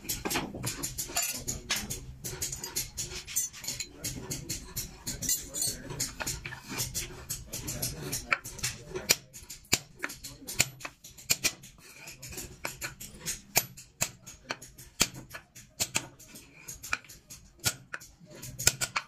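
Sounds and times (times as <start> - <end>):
mallet tapping chisel: 0.0 - 19.0.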